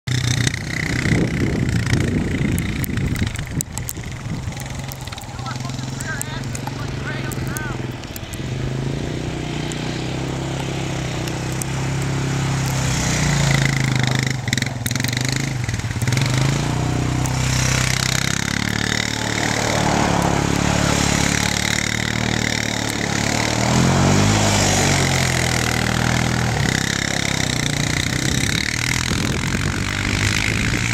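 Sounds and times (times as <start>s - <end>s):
quad engine revving: 0.0s - 30.9s.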